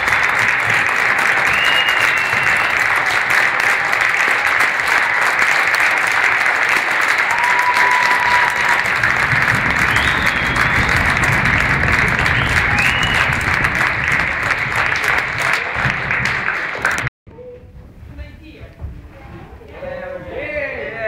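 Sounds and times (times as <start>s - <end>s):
audience applauding: 0.0s - 17.1s.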